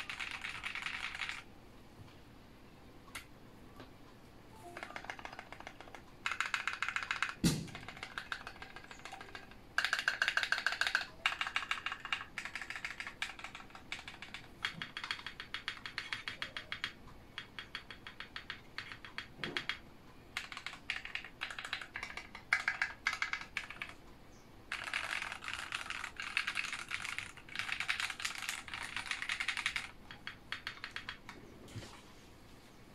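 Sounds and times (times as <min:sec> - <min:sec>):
mechanical keyboard typing: 0:00.0 - 0:01.5, 0:04.6 - 0:24.0, 0:24.7 - 0:31.4.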